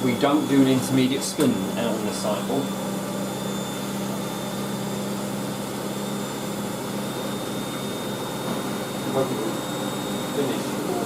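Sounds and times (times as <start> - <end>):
drain pump humming: 0.0 - 11.0
washing machine running: 0.0 - 11.0.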